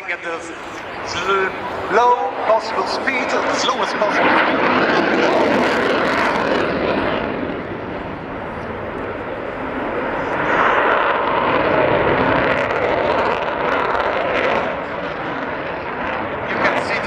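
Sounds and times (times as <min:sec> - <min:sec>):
jet engine rush: 0:00.0 - 0:17.0.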